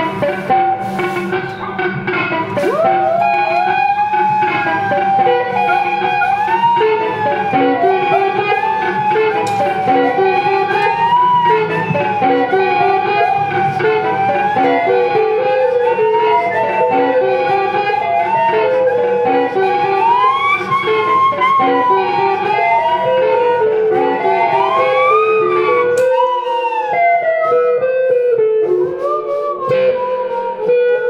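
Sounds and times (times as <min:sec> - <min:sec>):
electric guitar picking notes: 0:00.0 - 0:31.0
wavering horn tone: 0:00.0 - 0:31.0.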